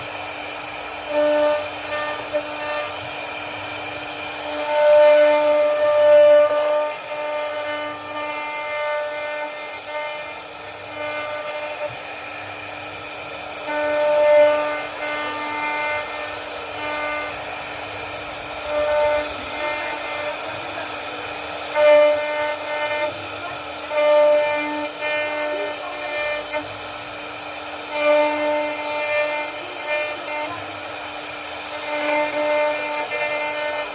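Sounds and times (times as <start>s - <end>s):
router spindle whining: 0.0s - 33.9s.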